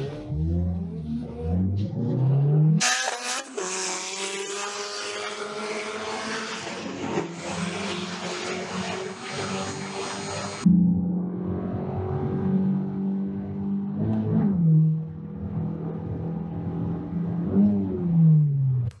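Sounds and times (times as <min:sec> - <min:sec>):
engine at full throttle: 0:00.0 - 0:18.2
car engine revving: 0:00.0 - 0:19.0.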